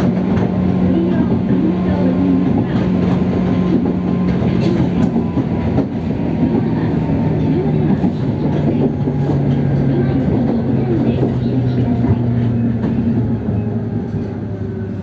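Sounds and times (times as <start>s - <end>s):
electric train motors humming: 0.0s - 15.0s
rumbling rail noise: 0.0s - 15.0s.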